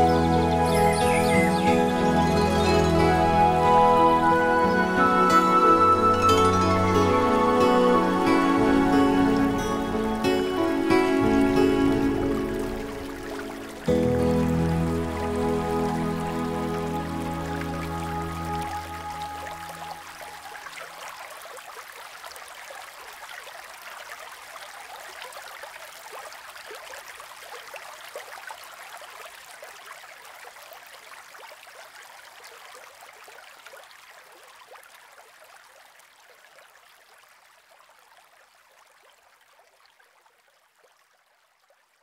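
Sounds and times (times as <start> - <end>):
brook trickling and splashing: 0.0 - 42.0.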